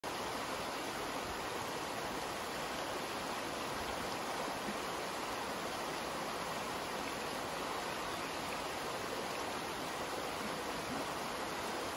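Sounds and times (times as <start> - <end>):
creek water rushing over rocks: 0.0 - 11.9.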